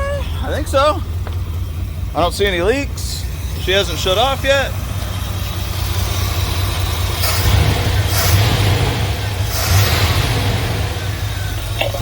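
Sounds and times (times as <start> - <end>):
pickup engine rumbling: 0.0 - 12.0.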